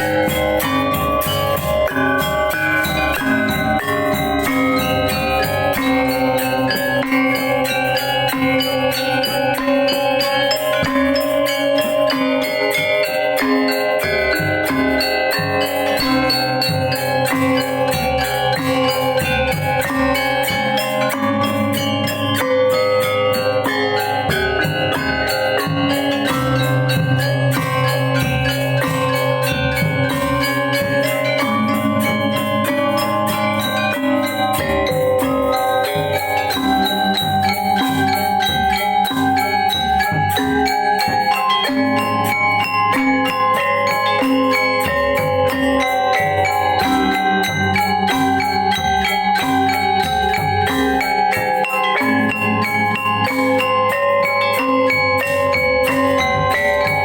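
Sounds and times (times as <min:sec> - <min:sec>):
drum strokes: 0:00.0 - 0:57.0
metallophones ringing: 0:00.0 - 0:57.0.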